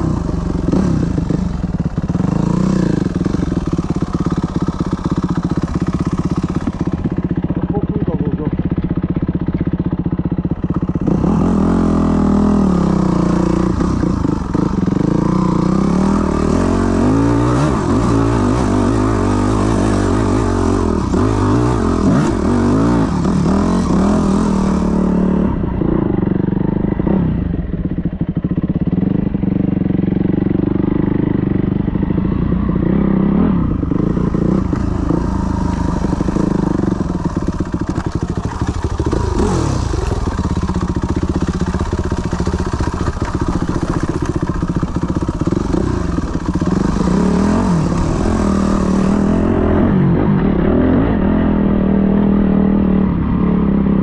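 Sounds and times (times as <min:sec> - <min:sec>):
dirt bike engine revving: 0:00.0 - 0:09.4, 0:10.6 - 0:27.6, 0:28.9 - 0:54.0.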